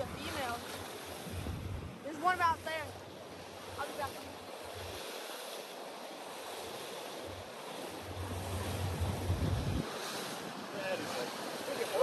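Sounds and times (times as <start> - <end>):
water rushing along boat hull: 0.0 - 12.0
wind buffeting microphone: 0.0 - 12.0.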